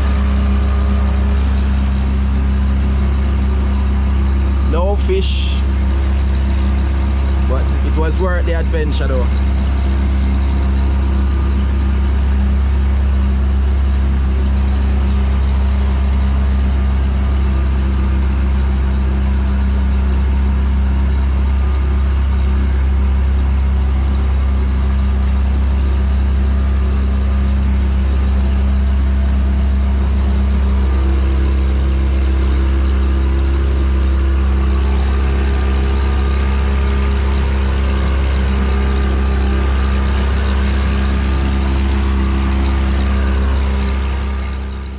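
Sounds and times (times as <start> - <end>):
motor engine droning steadily: 0.0 - 44.9.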